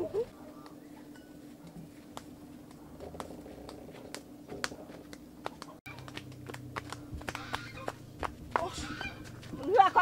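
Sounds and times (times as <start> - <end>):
footsteps on leaves and twigs: 0.3 - 10.0.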